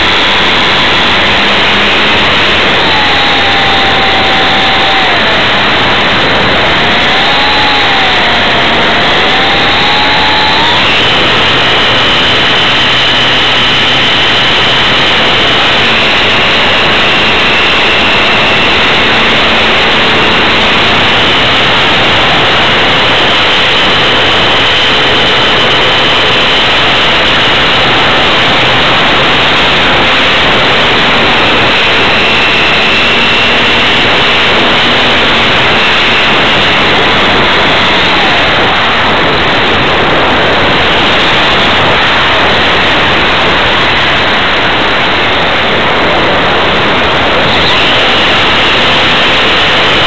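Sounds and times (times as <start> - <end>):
heavy wind rush: 0.0 - 50.0
model airplane motor whine: 0.0 - 50.0.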